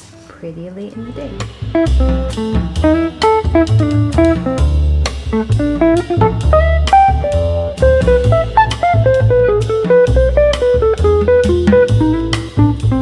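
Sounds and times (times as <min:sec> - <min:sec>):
plucked melody: 0:00.9 - 0:13.0
bass line: 0:01.0 - 0:13.0
steady drum beat: 0:01.2 - 0:13.0.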